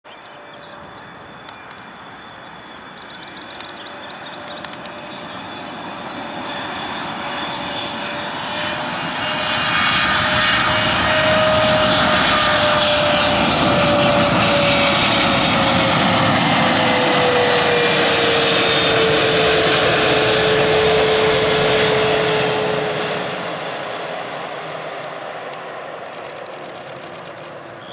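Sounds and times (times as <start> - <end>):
jet engines whining: 0.7 - 27.9.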